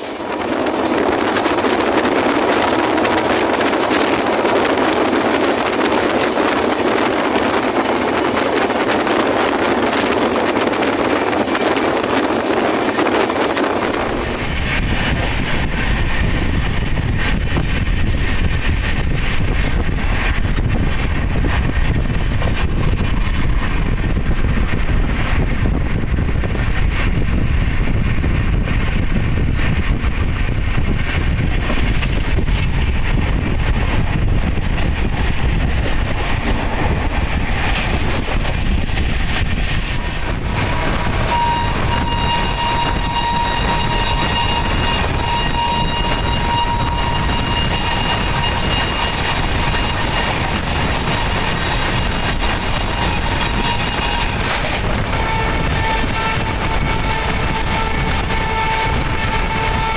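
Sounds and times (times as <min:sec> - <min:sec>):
rush of wind from moving train: 0:00.0 - 0:59.9
train wheels on rails: 0:00.0 - 0:59.9.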